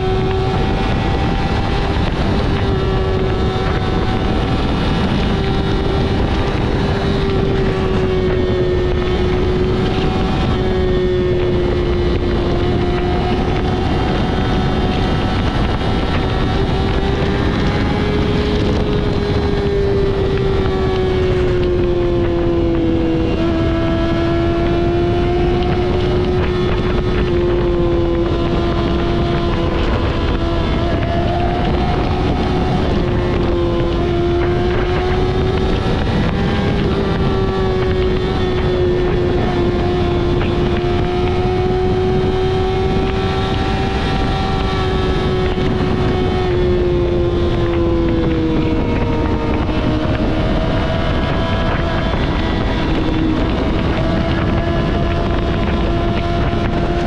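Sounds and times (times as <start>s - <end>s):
motorcycle engine at high revs: 0.0s - 57.0s
wind noise on microphone: 0.0s - 57.0s.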